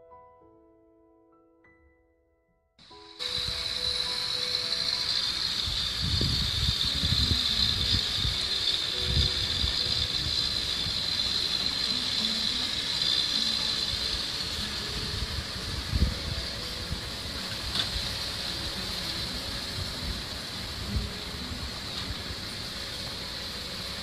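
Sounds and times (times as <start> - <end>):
high-pitched hiss: 2.8 - 24.0
excavator diesel engine under load: 3.3 - 24.0.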